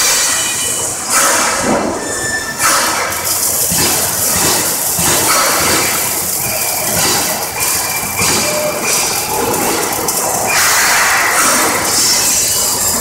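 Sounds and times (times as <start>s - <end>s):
arc welding crackling hiss: 0.0s - 13.0s.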